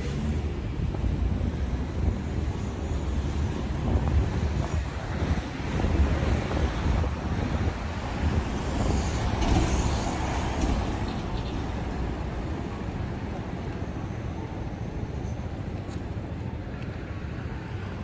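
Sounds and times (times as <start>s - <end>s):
rumble of passing cars: 0.0s - 18.0s.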